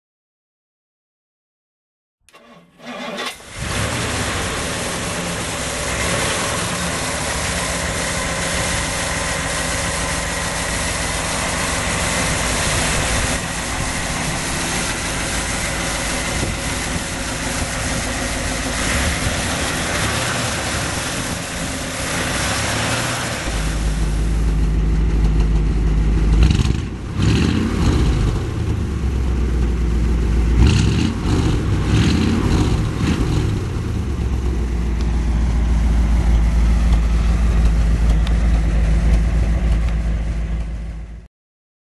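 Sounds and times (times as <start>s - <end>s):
car engine idling: 2.4s - 41.2s.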